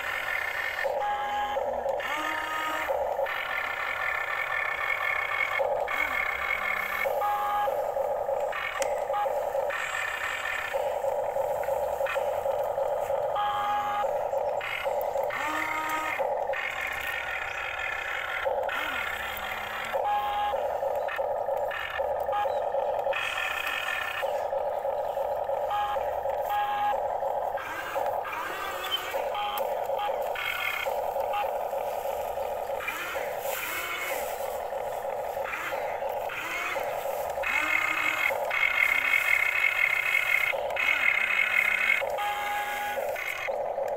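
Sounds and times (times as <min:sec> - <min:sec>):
small electric motors whirring: 0:00.0 - 0:43.9.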